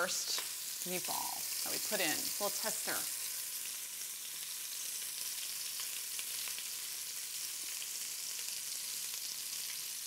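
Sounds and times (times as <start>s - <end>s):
meatballs sizzling in oil: 0.0s - 10.0s.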